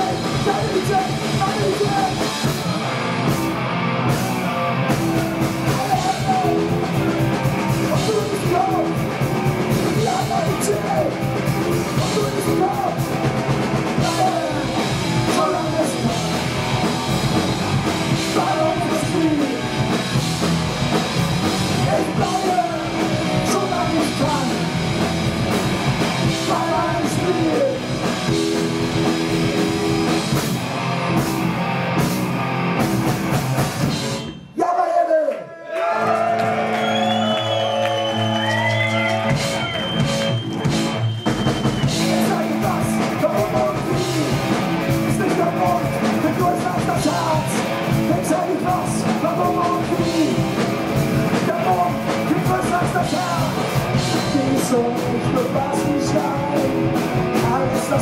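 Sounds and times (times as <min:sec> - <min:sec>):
punk rock band playing live: 0:00.0 - 0:34.4, 0:36.4 - 0:58.0.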